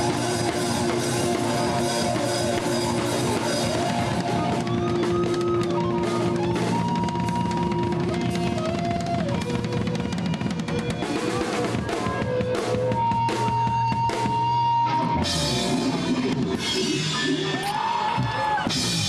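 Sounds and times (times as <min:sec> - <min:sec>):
drum kit: 0:00.0 - 0:19.0
live rock band playing: 0:00.0 - 0:19.0.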